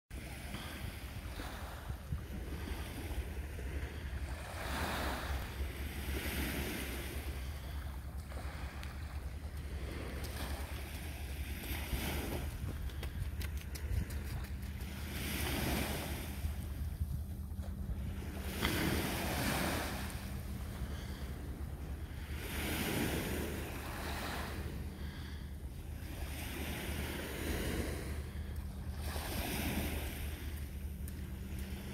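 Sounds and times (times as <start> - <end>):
steady low hum: 0.2 - 31.9
wind rumble on microphone: 0.2 - 31.9.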